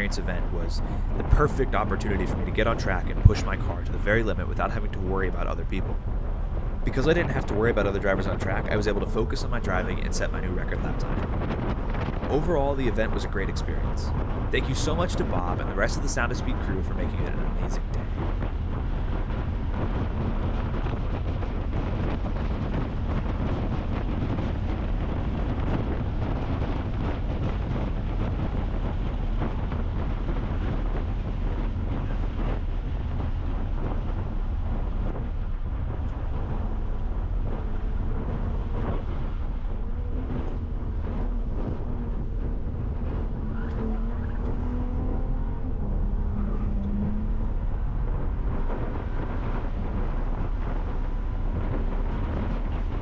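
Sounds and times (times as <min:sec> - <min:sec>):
car engine at speed: 0:00.0 - 0:53.0
wind noise: 0:00.0 - 0:53.0.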